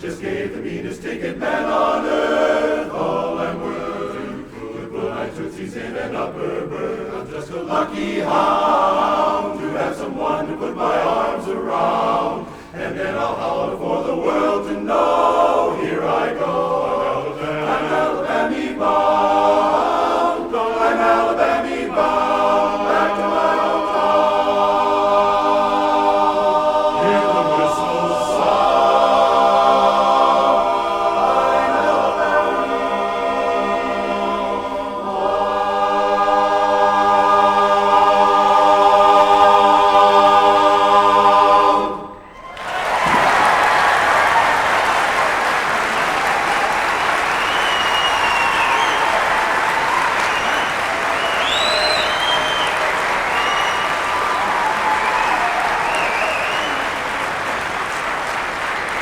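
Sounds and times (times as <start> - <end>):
barbershop chorus singing a cappella: 0.0 - 59.0.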